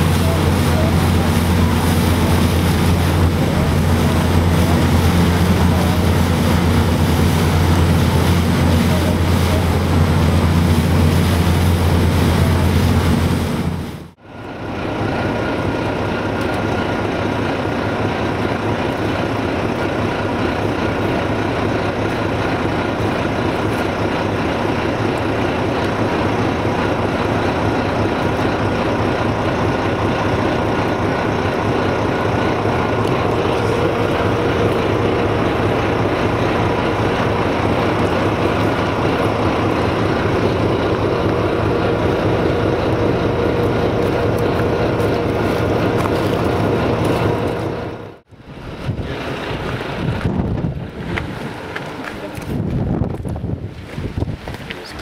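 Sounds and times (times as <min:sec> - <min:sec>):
vehicle engine and travel noise: 0:00.0 - 0:55.0.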